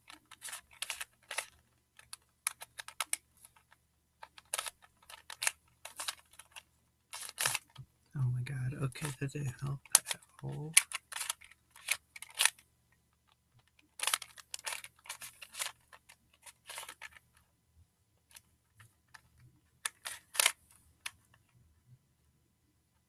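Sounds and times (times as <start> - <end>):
plastic puzzle clicking: 0.0 - 7.9, 8.9 - 17.4, 18.2 - 21.4.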